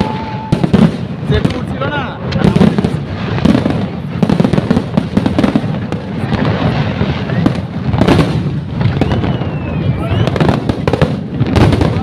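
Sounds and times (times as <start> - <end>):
fireworks crackling and bursting: 0.0 - 12.0.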